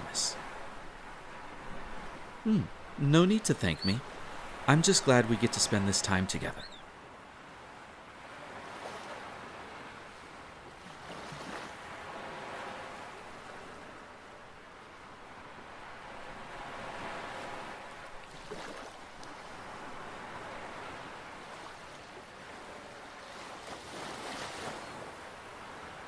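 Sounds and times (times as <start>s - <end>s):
ocean waves washing onto shore: 0.0s - 26.0s.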